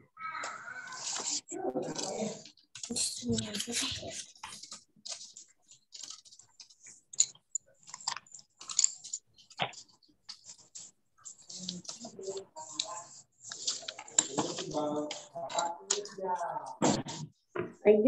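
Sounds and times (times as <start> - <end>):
paper crackling: 0.9 - 16.2.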